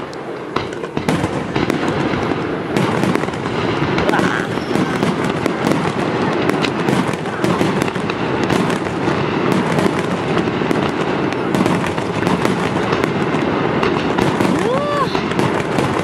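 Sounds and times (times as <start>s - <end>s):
fireworks bursting: 0.0s - 16.0s
fireworks crackling: 0.0s - 16.0s.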